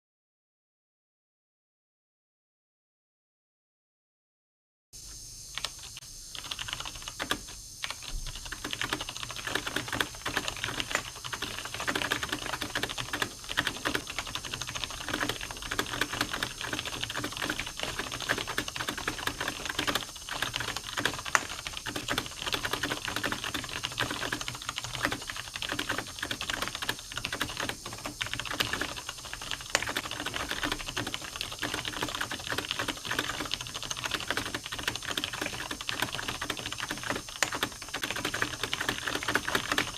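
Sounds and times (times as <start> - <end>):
fast typing on keyboard: 5.6 - 39.9.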